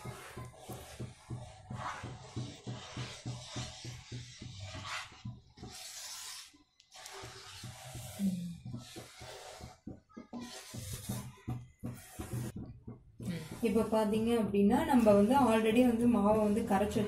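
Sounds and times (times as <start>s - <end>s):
spatula scraping thick batter: 0.0s - 12.6s, 13.3s - 17.0s
faint background music: 0.0s - 17.0s.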